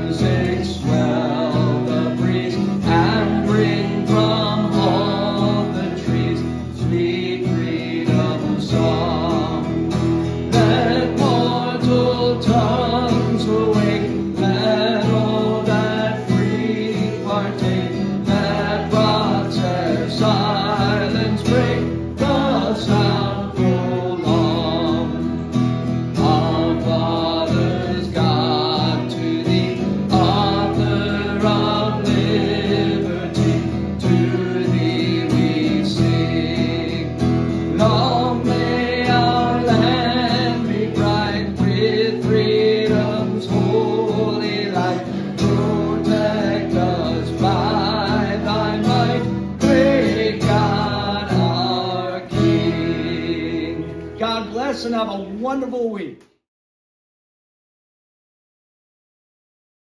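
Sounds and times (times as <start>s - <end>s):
man singing into microphone: 0.0s - 25.5s, 26.1s - 54.6s
strummed acoustic guitar: 0.0s - 55.1s.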